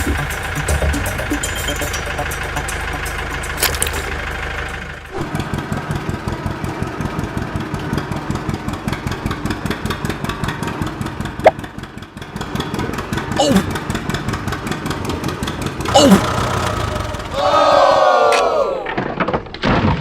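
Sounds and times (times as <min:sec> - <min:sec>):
tractor engine chugging: 0:00.0 - 0:18.3.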